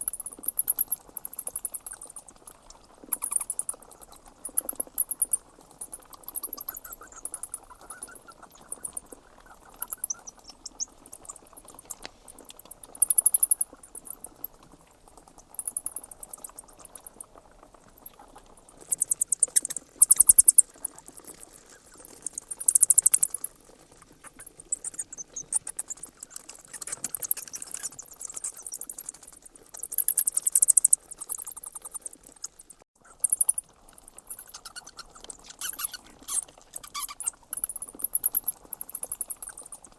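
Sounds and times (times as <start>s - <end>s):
bats squeaking: 0.0s - 39.9s.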